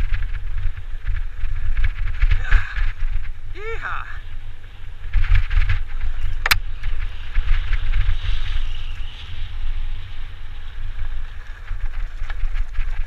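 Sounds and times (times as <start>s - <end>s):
bike tyre and drivetrain rattle: 0.0s - 13.0s
wind rumble on microphone: 0.0s - 13.0s.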